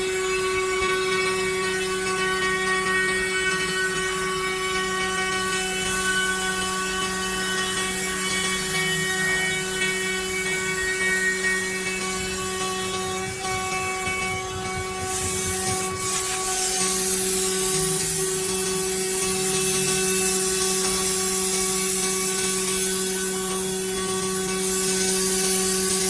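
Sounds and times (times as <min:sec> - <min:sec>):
drilling machine motor hum and whine: 0:00.0 - 0:26.0.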